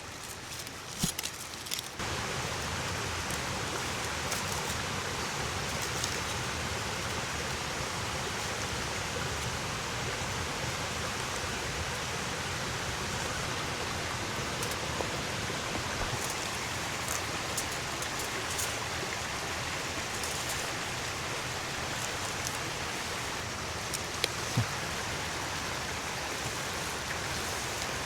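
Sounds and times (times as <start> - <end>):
rain on a canvas tent: 0.0 - 28.0.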